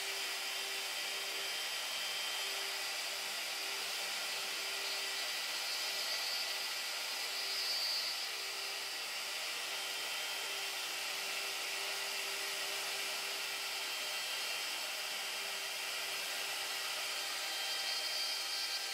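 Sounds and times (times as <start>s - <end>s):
wood router cutting log: 0.0s - 18.9s.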